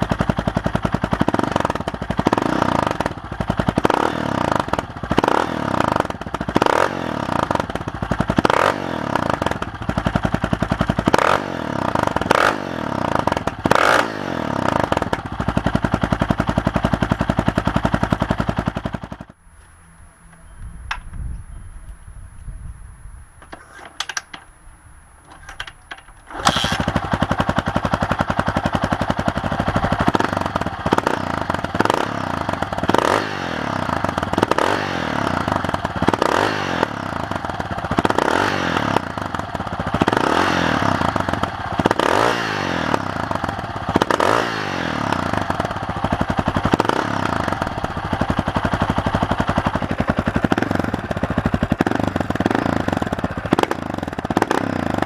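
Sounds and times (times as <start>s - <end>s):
motorcycle engine idling: 0.0s - 22.0s, 25.8s - 55.0s.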